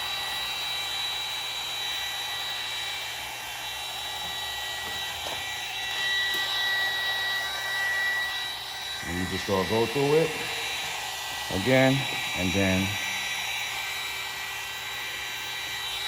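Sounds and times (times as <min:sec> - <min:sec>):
heat gun blowing with high whine: 0:00.0 - 0:16.0.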